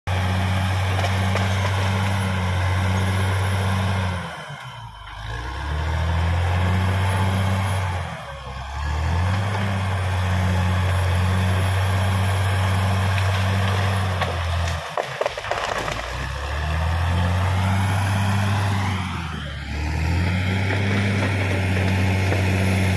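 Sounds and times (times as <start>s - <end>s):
bulldozer diesel engine revving: 0.1s - 22.9s.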